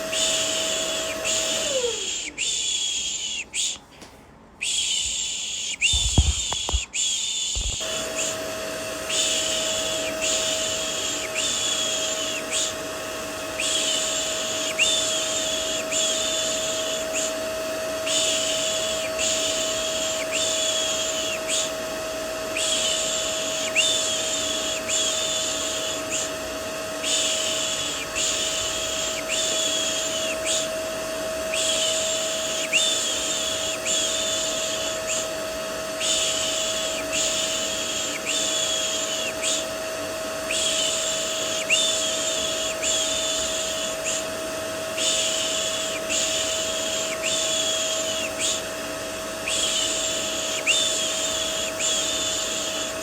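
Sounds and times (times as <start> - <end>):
vacuum cleaner whining: 0.0 - 53.0.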